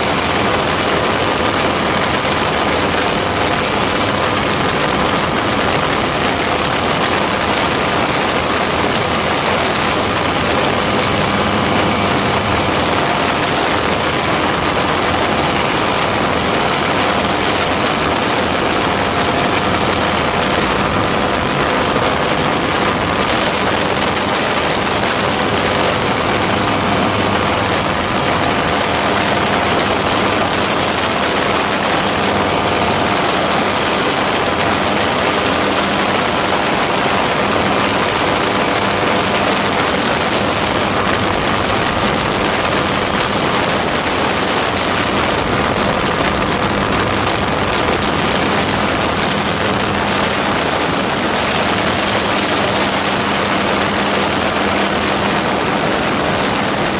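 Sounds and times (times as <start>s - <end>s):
aircraft engine and propeller: 0.0s - 56.9s.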